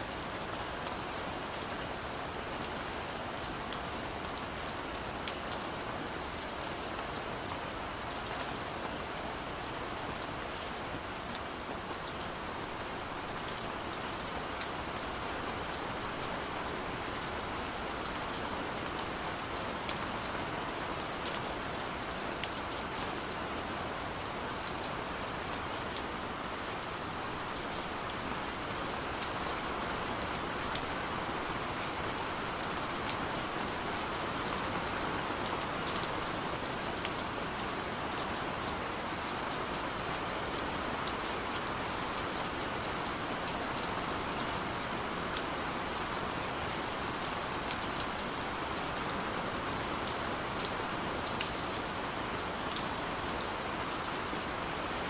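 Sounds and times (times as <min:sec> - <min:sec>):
gentle rain falling: 0:00.0 - 0:55.0.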